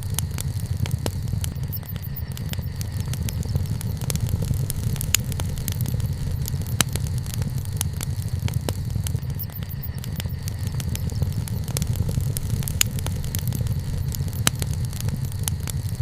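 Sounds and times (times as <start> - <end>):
bonfire crackling and popping: 0.0 - 16.0
low fire rumble: 0.0 - 16.0.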